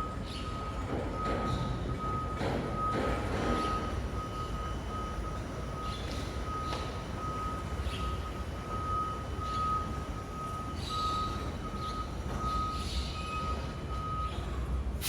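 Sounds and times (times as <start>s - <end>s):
truck warning beeps: 0.0s - 15.0s.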